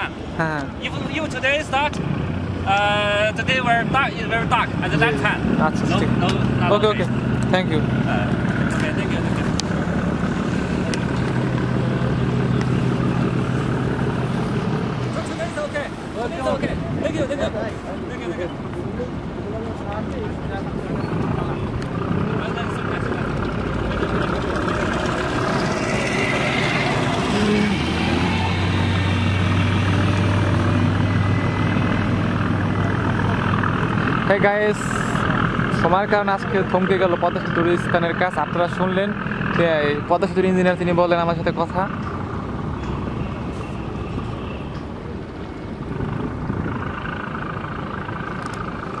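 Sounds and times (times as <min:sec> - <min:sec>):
heavy engine droning: 0:00.0 - 0:16.8, 0:20.1 - 0:49.0.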